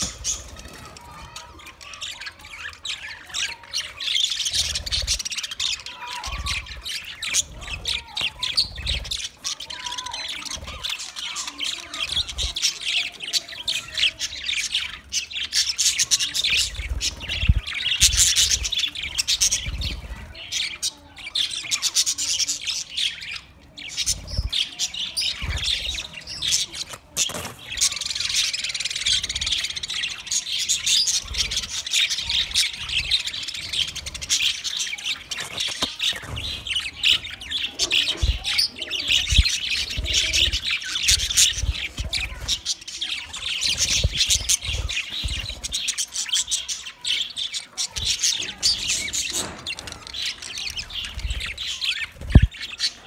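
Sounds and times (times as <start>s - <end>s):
budgerigars chirping and squawking: 0.0s - 53.0s.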